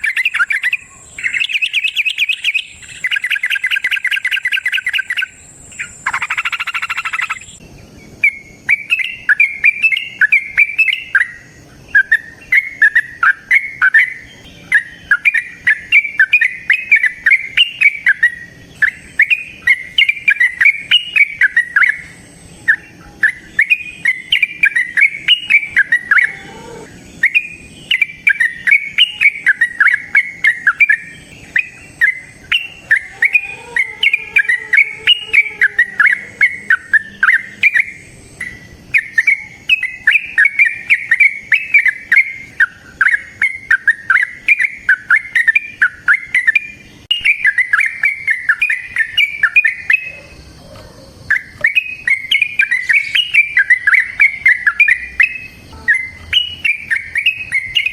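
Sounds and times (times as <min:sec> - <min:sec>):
bulbul singing bubbling song: 0:00.0 - 0:57.9.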